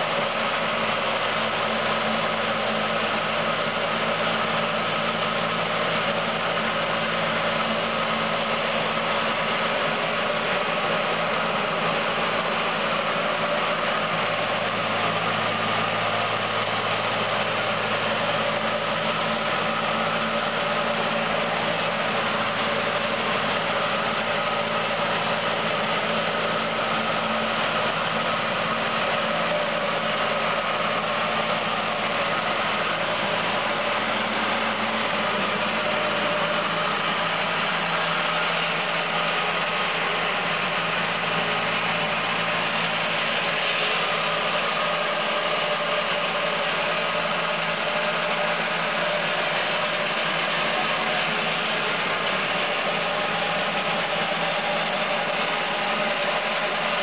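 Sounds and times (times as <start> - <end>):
diesel concrete saw running: 0.0 - 57.0.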